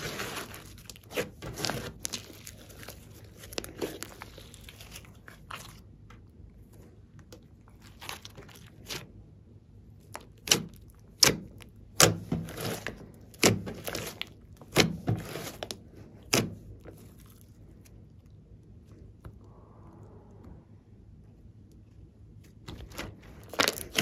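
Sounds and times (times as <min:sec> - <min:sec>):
slime popping and squelching: 0:00.0 - 0:06.2, 0:07.2 - 0:09.2, 0:09.9 - 0:20.4, 0:22.4 - 0:24.0.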